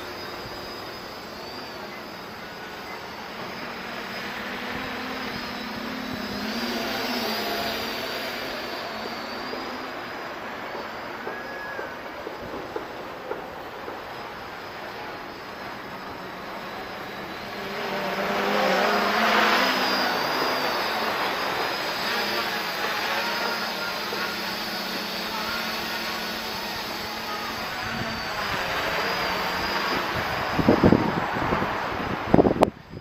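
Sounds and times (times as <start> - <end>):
drone propellers buzzing: 0.0 - 33.0.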